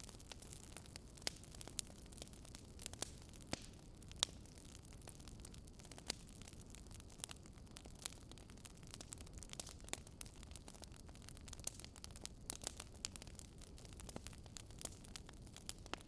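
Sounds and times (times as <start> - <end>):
campfire crackling faintly: 0.0 - 16.0.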